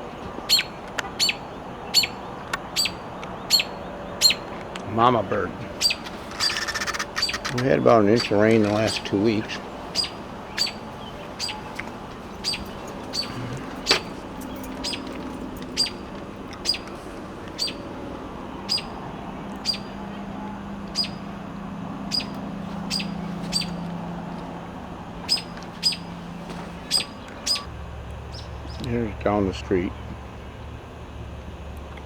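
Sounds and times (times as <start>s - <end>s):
bird chirping: 0.0s - 29.1s
faint low hum: 0.0s - 32.0s.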